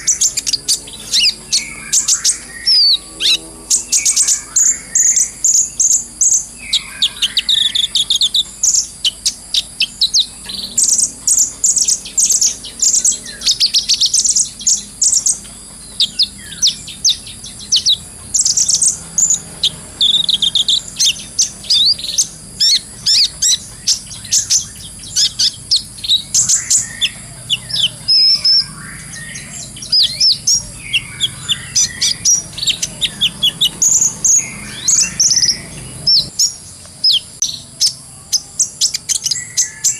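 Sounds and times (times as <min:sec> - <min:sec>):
sunbird twittering song: 0:00.0 - 0:39.9.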